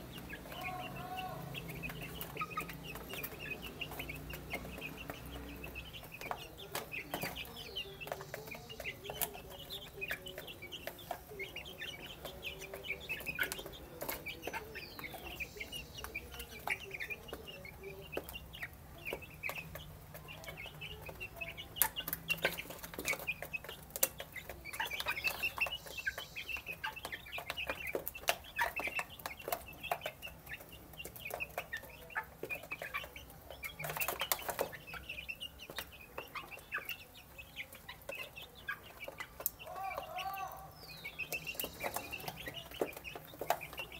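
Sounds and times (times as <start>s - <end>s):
beaks pecking at feeder: 0.0s - 43.9s
chicks peeping and chirping: 0.0s - 43.9s.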